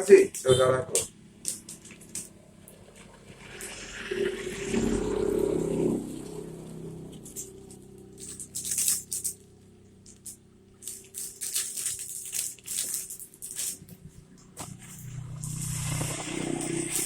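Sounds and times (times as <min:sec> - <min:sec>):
plastic crinkling and rattling: 0:00.0 - 0:03.8, 0:07.1 - 0:17.0.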